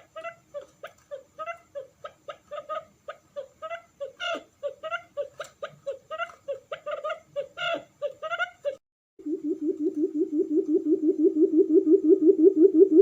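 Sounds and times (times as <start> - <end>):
quail chirping: 0.0 - 12.4.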